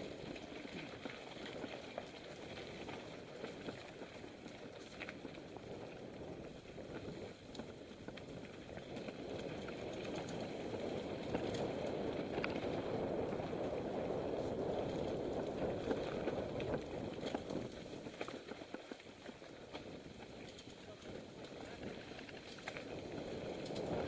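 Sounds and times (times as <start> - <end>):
bike clicks and rattles: 0.0 - 24.0
bike tyres rushing over dirt: 0.0 - 24.0.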